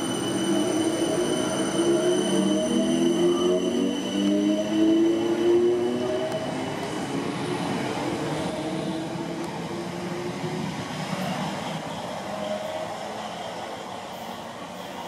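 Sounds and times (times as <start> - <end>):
train whine: 0.0 - 15.0.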